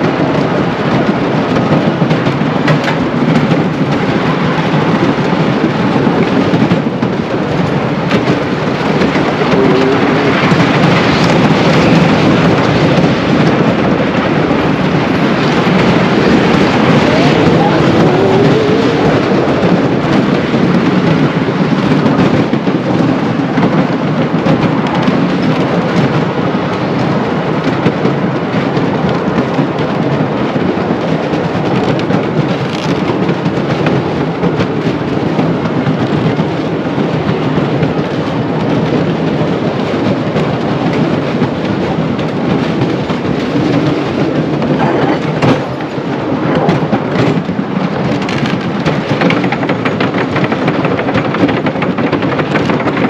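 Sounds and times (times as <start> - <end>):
roller coaster wheels on track: 0.0 - 53.0.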